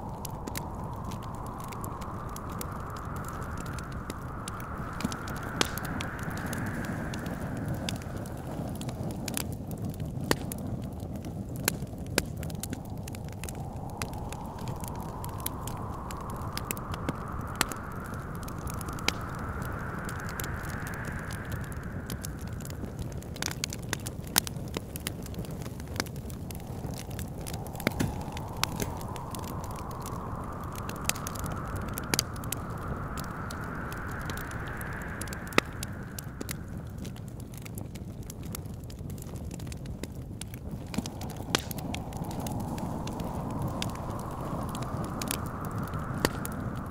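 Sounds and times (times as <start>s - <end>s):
low wind rumble: 0.0s - 46.9s
whistling wind gust: 0.0s - 46.9s
wood fire crackling and popping: 0.0s - 46.9s.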